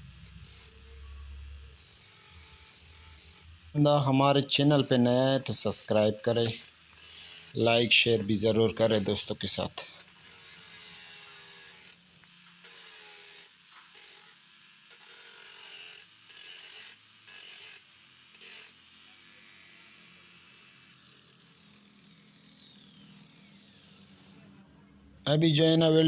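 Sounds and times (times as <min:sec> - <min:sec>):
angle grinder cutting steel: 0:00.0 - 0:25.2.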